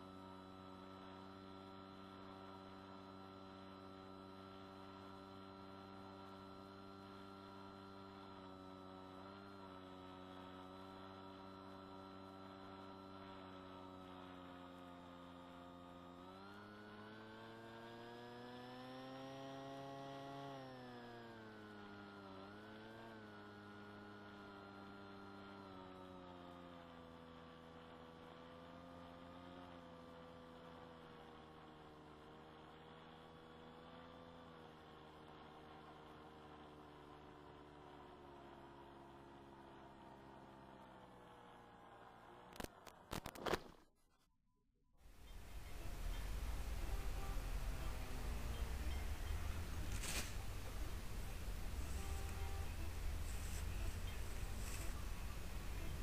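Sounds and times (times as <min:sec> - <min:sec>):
model plane motor drone: 0:00.0 - 0:43.8, 0:45.1 - 0:56.0.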